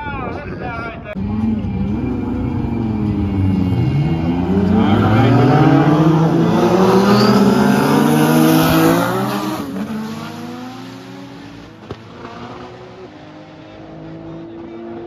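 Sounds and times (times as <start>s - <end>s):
drag car engines at full throttle: 1.1s - 15.0s.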